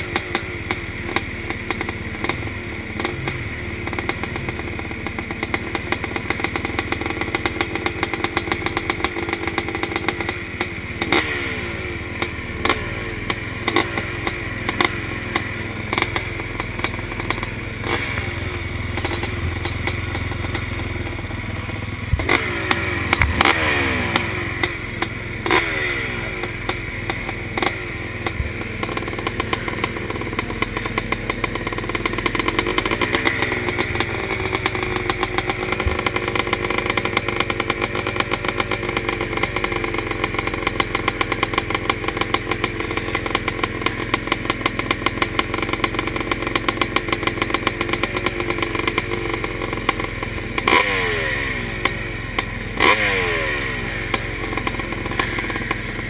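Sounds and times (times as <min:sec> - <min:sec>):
motorbike engines idling and revving: 0:00.0 - 0:56.0.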